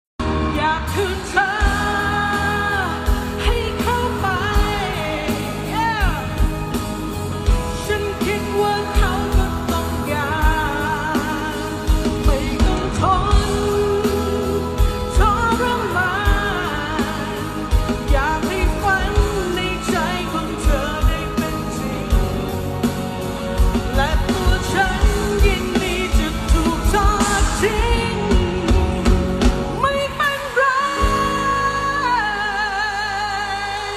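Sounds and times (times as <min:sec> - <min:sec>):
pop band with drum beat: 0:00.2 - 0:33.9
woman singing with vibrato: 0:00.3 - 0:33.9.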